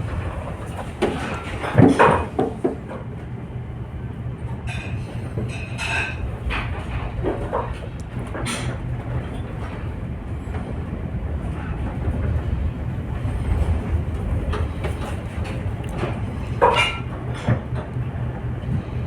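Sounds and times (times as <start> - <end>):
ship engine drone: 0.0 - 19.0.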